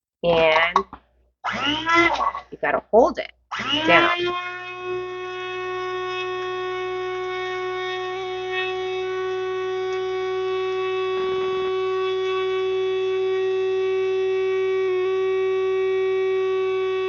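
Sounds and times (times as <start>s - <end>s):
spice grinder motor whining: 1.5s - 2.1s, 3.5s - 17.0s.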